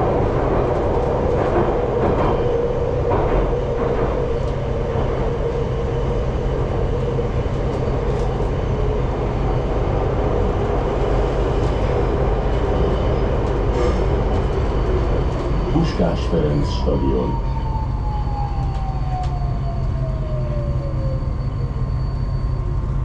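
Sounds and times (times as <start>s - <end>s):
metro train rumbling: 0.0s - 23.0s.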